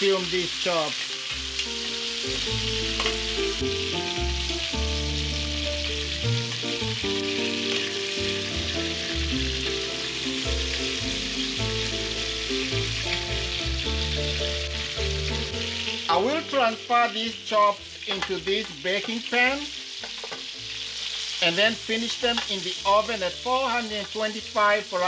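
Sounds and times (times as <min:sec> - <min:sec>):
background music: 0:00.0 - 0:25.0
meat sizzling in a pan: 0:00.0 - 0:25.0.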